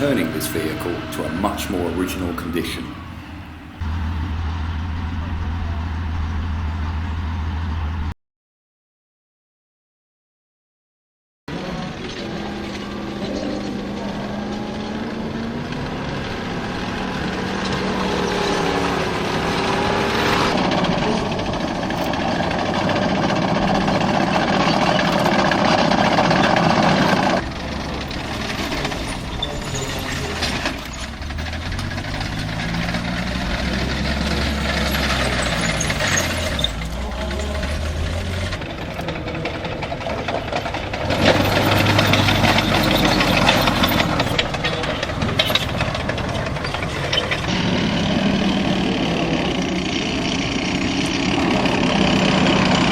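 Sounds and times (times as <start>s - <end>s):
tank engine revving: 0.0s - 8.1s, 11.5s - 52.9s.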